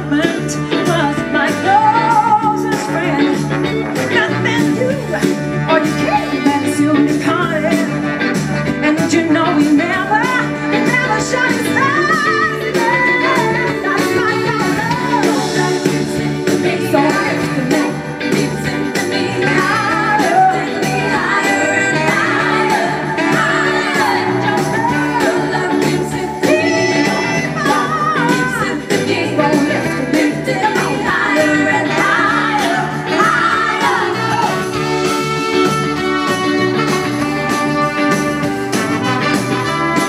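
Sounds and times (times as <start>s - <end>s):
woman singing: 0.0s - 8.0s, 8.8s - 35.0s
soul band playing: 0.0s - 40.0s.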